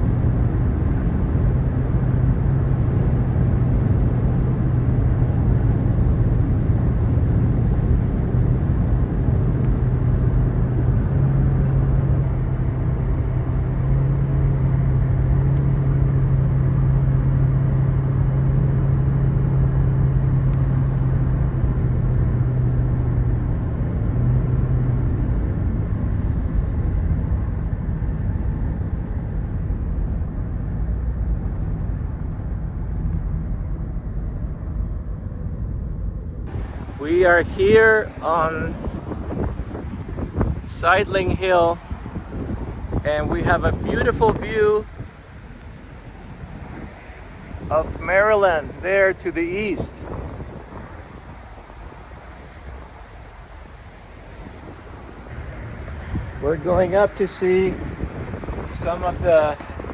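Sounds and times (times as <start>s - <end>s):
road and engine noise in car: 0.0s - 59.9s.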